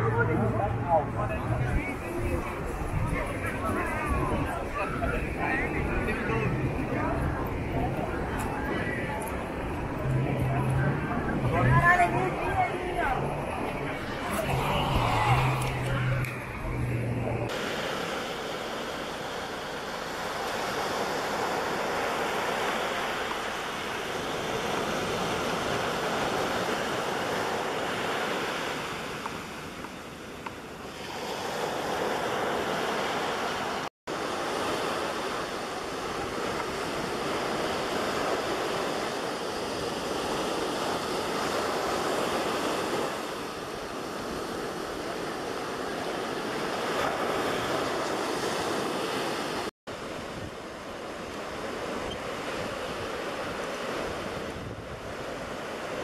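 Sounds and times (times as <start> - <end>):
ocean surf breaking: 0.0 - 56.0.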